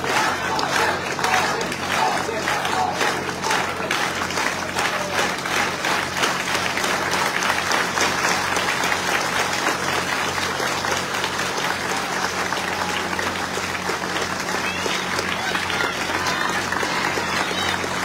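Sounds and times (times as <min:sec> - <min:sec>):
large crowd applauding: 0:00.0 - 0:18.0.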